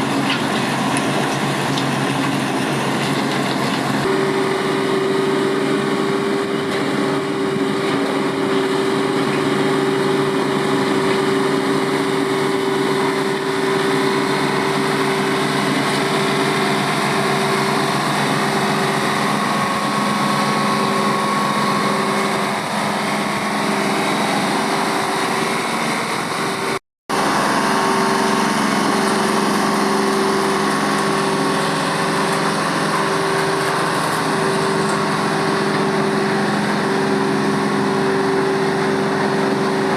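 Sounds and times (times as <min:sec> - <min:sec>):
machinery engine running: 0:00.0 - 0:39.9.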